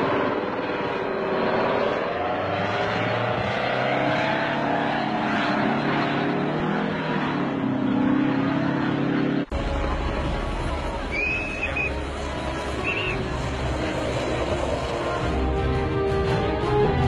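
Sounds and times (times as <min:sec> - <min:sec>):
wavering whine: 0:00.0 - 0:16.5
aircraft engines and rotors droning: 0:00.0 - 0:17.0.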